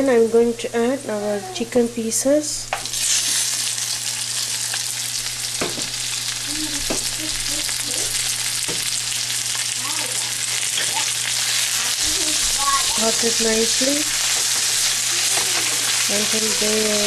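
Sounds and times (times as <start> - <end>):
chicken sizzling in oil: 2.8 - 17.0.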